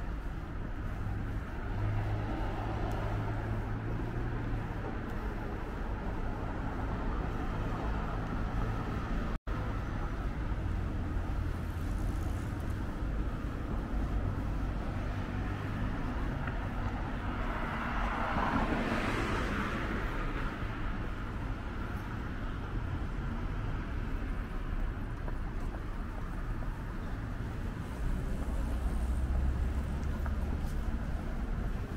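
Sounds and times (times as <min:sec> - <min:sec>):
passing cars rumbling: 0:00.0 - 0:31.9.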